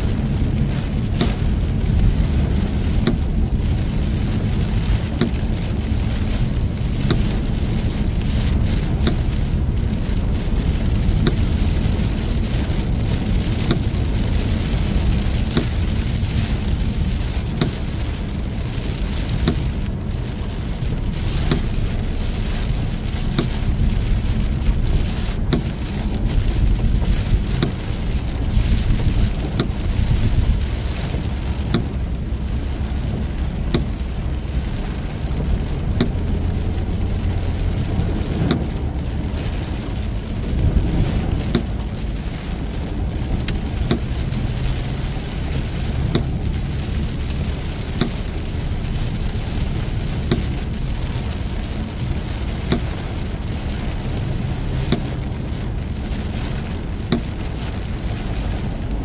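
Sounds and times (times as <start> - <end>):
car rumbling on road: 0.0 - 59.0
rain drops ticking on car: 0.0 - 59.0.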